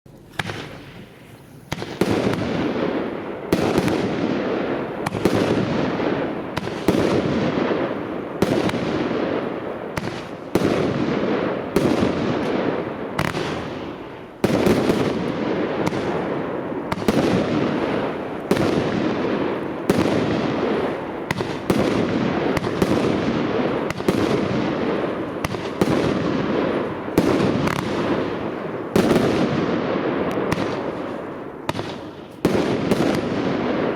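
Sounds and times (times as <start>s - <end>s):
firework barrage shots: 0.3s - 33.9s.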